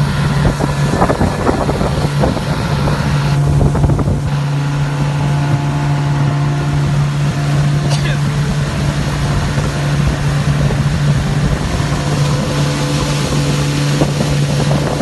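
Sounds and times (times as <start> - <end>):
motorboat engine droning: 0.0 - 15.0
wind buffeting microphone: 0.0 - 15.0.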